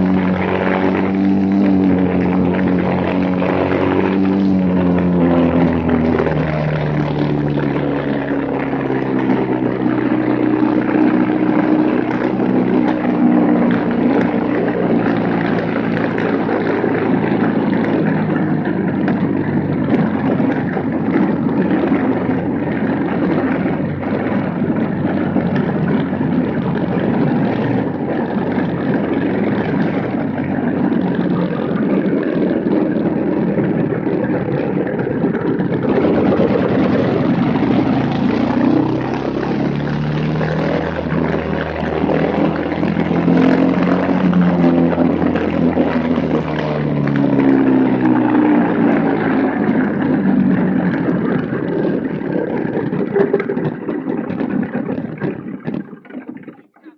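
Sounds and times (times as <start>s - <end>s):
kart engine running hard: 0.0s - 56.9s.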